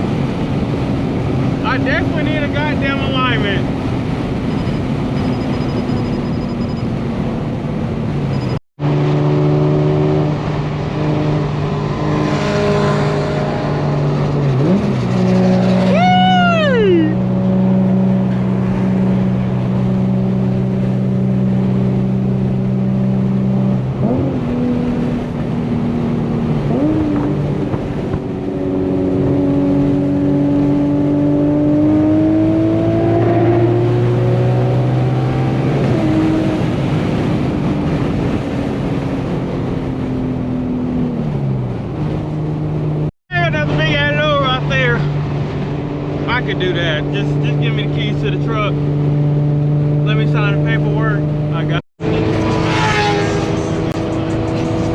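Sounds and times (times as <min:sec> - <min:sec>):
car engine and exhaust driving: 0:00.0 - 0:54.9.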